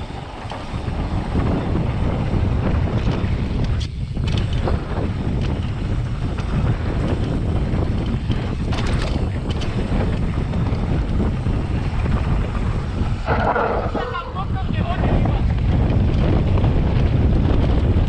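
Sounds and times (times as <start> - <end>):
bike knocking and rattling: 0.0 - 18.0
wind buffeting microphone: 0.0 - 18.0.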